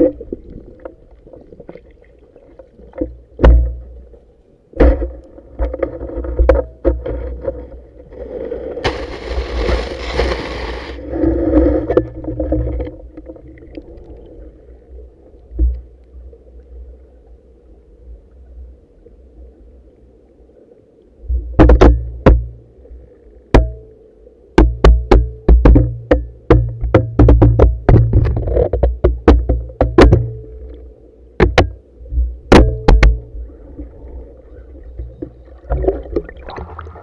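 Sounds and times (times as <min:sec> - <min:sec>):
underwater rumble of water: 0:00.0 - 0:37.0.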